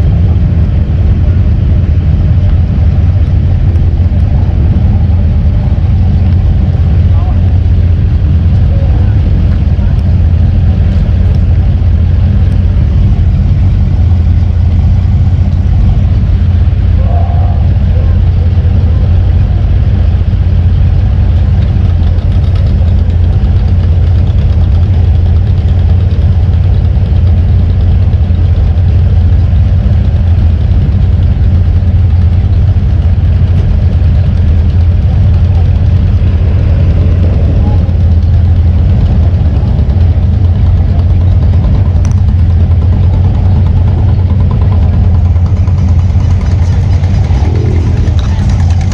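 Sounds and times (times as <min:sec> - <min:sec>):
vehicle engine droning: 0:00.0 - 0:48.9.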